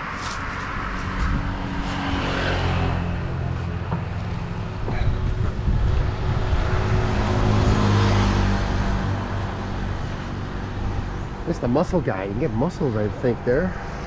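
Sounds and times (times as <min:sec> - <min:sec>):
roadside traffic: 0:00.0 - 0:14.0
vehicle passing by: 0:00.0 - 0:14.0.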